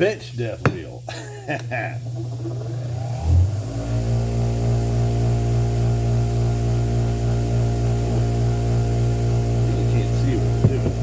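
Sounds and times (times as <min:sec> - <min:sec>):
grinder motor humming: 0:00.0 - 0:11.0.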